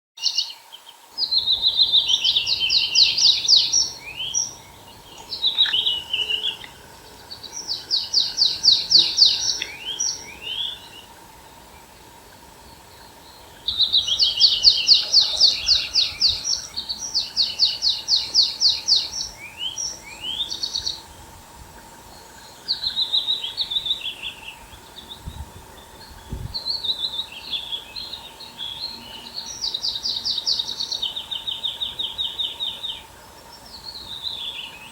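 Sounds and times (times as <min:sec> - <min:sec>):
songbird trilling: 0:01.2 - 0:11.6, 0:12.6 - 0:21.2, 0:22.1 - 0:34.9.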